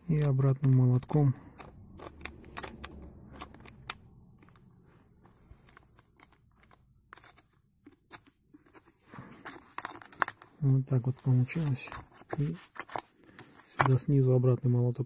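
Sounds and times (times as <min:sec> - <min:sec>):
metal tools clinking: 0:00.0 - 0:14.2.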